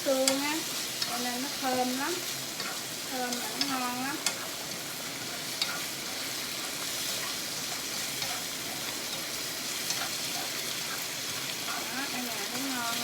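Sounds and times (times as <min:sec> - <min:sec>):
squid sizzling in pan: 0:00.0 - 0:13.0.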